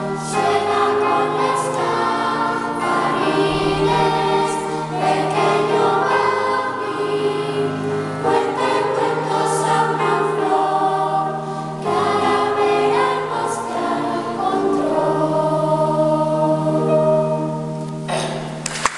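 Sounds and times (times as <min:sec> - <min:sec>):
children's choir singing: 0:00.0 - 0:18.4
keyboard accompaniment: 0:00.0 - 0:18.9.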